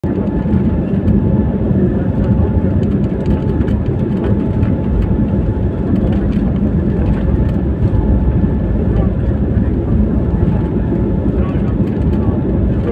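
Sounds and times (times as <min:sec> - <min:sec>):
jet engines and wheels rumbling: 0:00.0 - 0:12.9.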